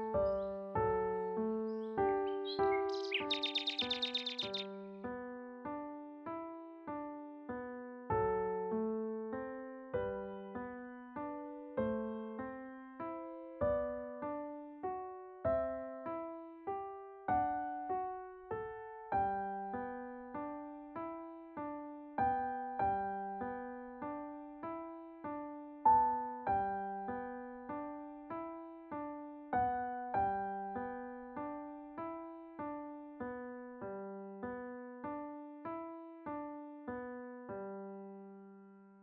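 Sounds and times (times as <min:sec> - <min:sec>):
solo piano music: 0:00.0 - 0:39.0.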